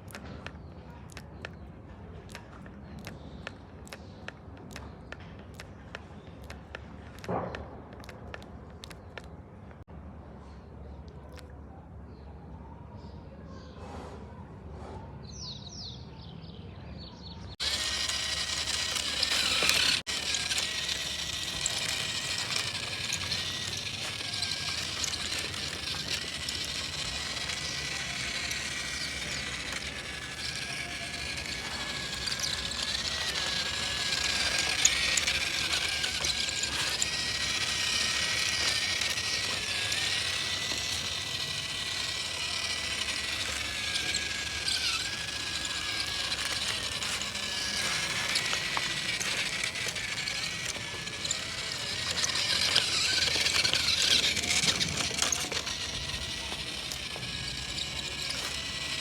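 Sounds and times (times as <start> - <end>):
toy motor whirring and grinding: 2.3 - 9.4, 17.5 - 59.0.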